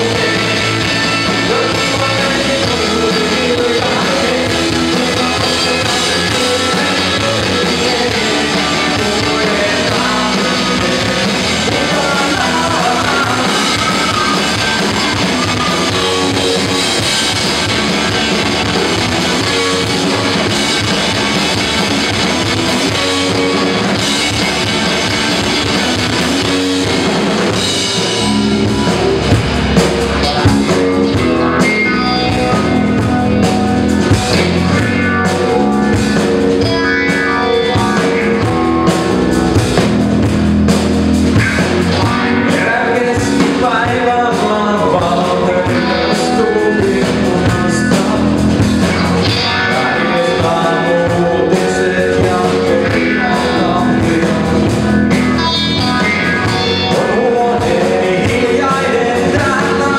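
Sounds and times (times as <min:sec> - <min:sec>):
gliding guitar line: 0:00.0 - 0:59.9
live rock band playing: 0:00.0 - 0:59.9.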